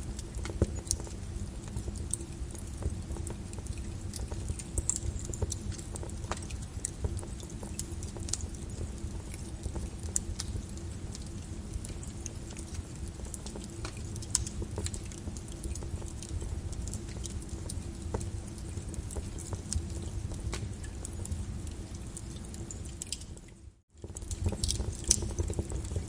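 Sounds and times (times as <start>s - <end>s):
lava crackling and popping: 0.0s - 26.0s.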